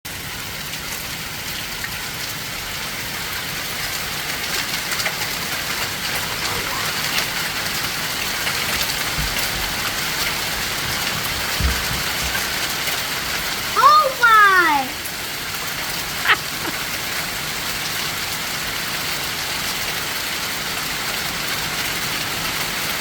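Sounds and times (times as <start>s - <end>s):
hail pattering on surfaces: 0.7s - 23.0s.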